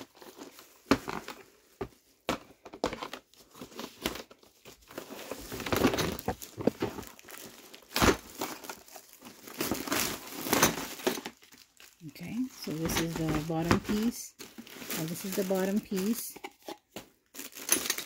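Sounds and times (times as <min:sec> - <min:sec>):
plastic film crinkling: 0:02.7 - 0:18.0.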